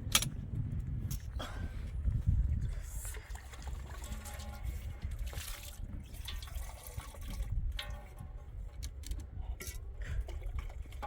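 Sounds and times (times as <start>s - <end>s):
water trickling and dripping: 2.0s - 11.0s.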